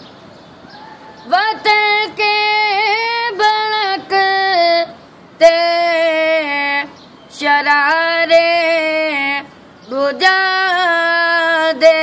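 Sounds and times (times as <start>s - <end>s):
boy singing unaccompanied: 0.9s - 12.0s.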